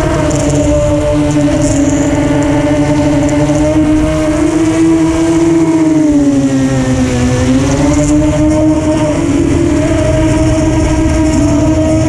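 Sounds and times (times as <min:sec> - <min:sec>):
electric motor and propeller whining: 0:00.0 - 0:12.0.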